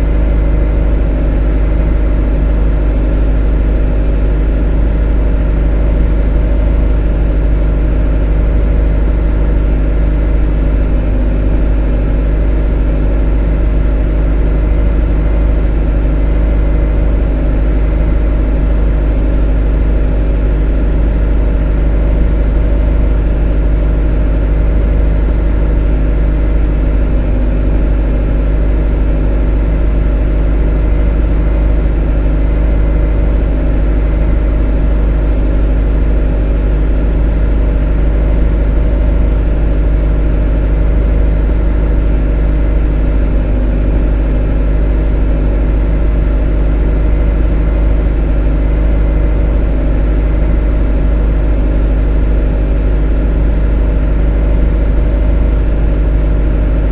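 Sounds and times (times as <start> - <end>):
motor droning: 0.0 - 56.9.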